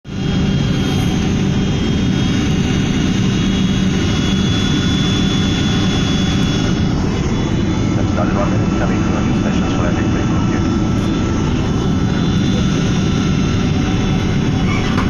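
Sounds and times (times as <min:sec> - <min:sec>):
jet engines and airflow roar: 0:00.0 - 0:15.0
faint high whine: 0:00.1 - 0:15.0.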